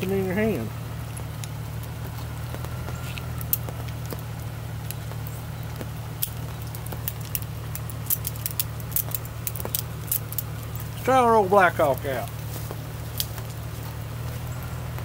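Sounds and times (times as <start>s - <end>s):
steady low hum: 0.0s - 15.0s
gear clicking and clinking: 1.2s - 15.0s.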